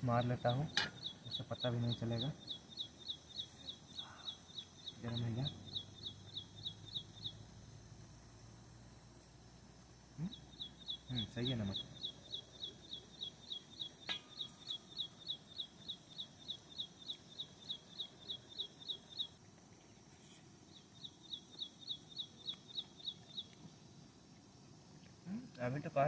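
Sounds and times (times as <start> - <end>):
small bird calling: 0.0 - 7.5, 10.1 - 23.8.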